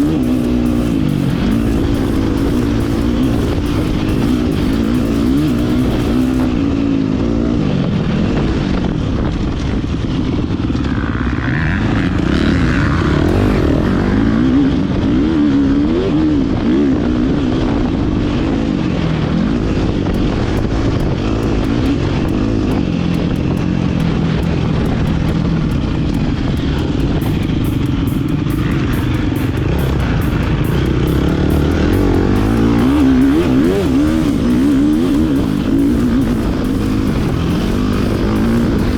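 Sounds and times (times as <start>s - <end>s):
motocross bike engine revving: 0.0s - 7.6s, 10.8s - 18.6s, 19.5s - 38.9s.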